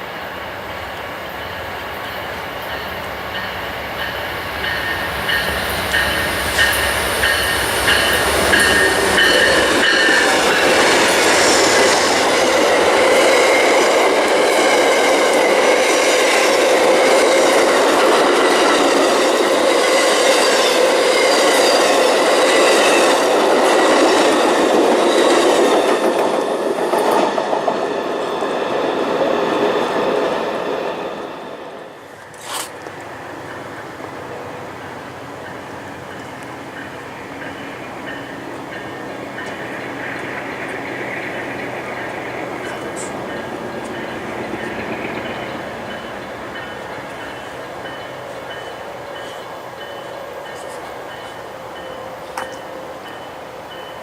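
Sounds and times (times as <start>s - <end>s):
train rolling past: 0.0s - 54.0s.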